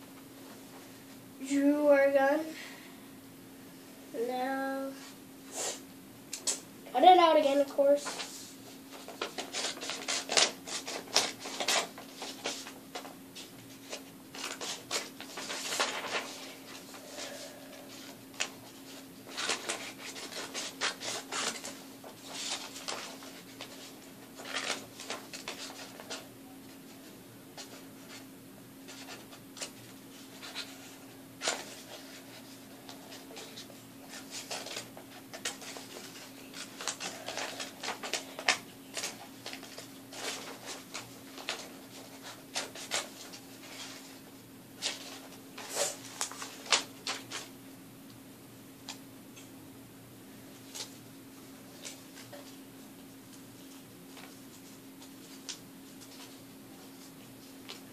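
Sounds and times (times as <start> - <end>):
paper rustling: 7.5 - 47.5, 50.5 - 51.0, 51.6 - 57.9.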